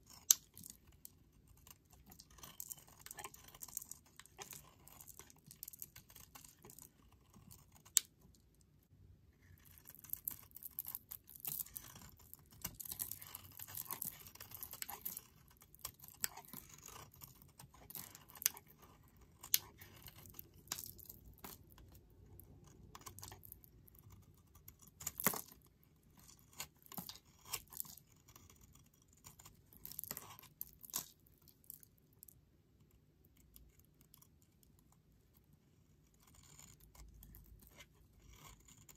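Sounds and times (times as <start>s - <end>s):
knife scraping and crunching soap: 0.0s - 38.9s.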